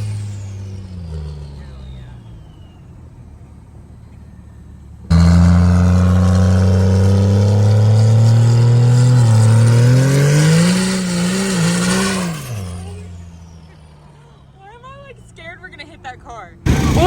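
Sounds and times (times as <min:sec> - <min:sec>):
vehicle engine revving: 0:00.0 - 0:15.8, 0:16.6 - 0:17.0.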